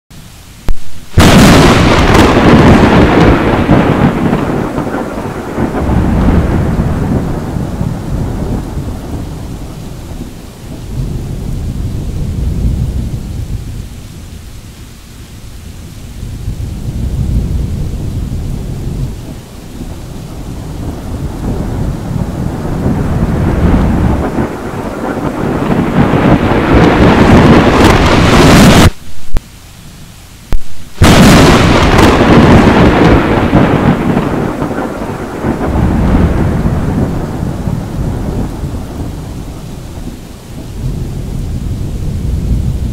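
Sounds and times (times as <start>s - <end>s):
thunder rolling rumble: 0.6s - 29.4s, 30.4s - 42.9s.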